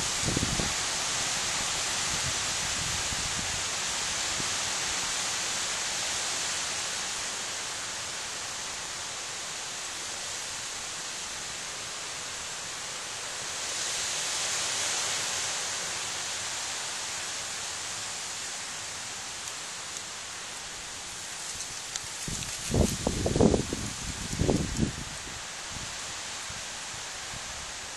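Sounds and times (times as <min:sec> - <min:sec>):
rushing outdoor background noise: 0:00.0 - 0:27.9.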